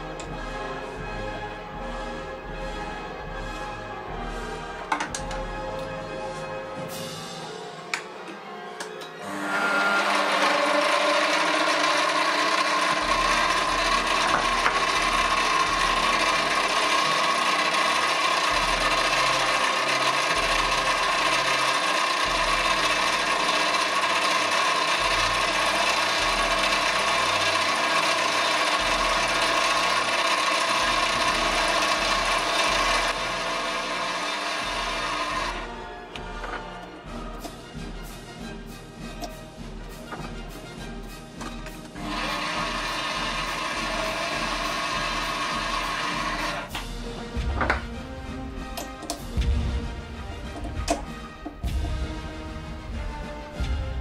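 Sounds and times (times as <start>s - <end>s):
lathe gears whining and clattering: 9.0s - 54.0s.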